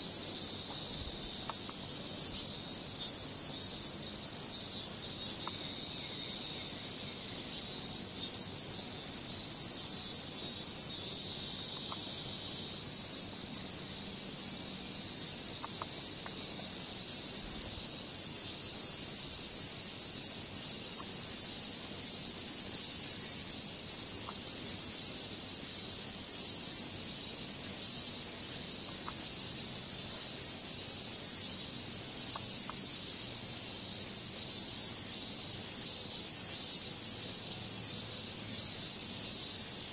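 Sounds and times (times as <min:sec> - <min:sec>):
cicadas chorus: 0:00.0 - 0:39.9.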